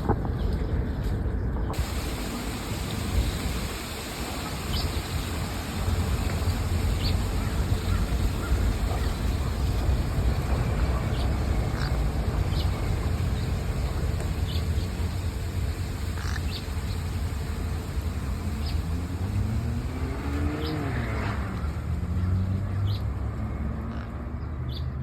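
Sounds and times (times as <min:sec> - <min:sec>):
wind rumbling on microphone: 0:00.0 - 0:22.8
vehicle engine hum passing: 0:00.6 - 0:25.0.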